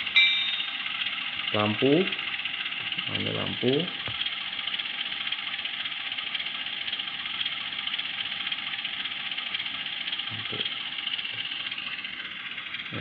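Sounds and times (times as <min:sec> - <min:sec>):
diesel engine idling through small speaker: 0:00.0 - 0:13.0.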